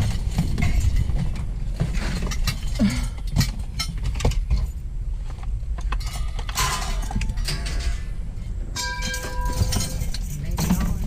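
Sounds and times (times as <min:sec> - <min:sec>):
scrap metal clanking: 0:00.0 - 0:04.8, 0:05.9 - 0:11.0
low rumble: 0:00.0 - 0:11.0.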